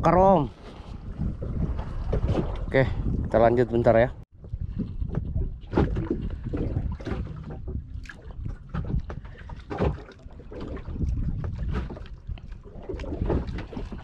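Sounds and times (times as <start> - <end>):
wind and water rumble: 0.0 - 14.0
knocks and clatters on boat: 0.6 - 14.0.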